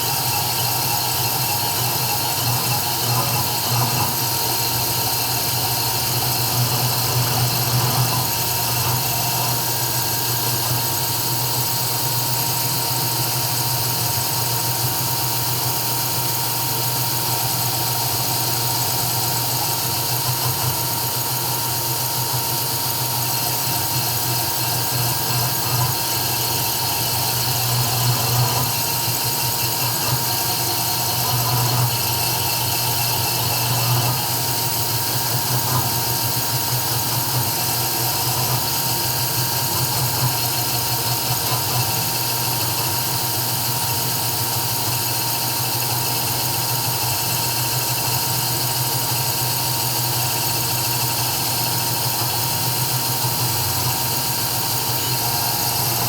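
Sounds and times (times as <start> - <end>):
router motors whining and humming: 0.0 - 56.0.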